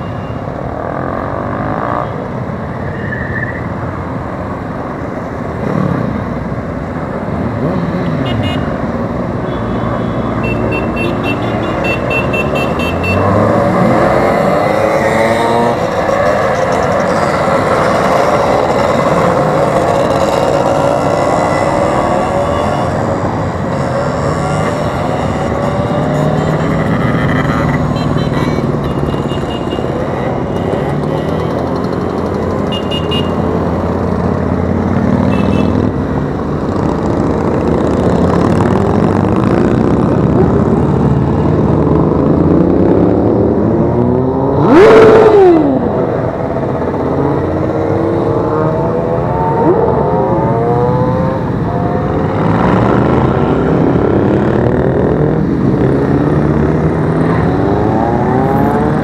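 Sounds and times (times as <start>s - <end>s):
loud motorcycle passing: 0.7s - 2.4s, 9.9s - 59.0s
motorcycles riding past: 11.4s - 59.0s.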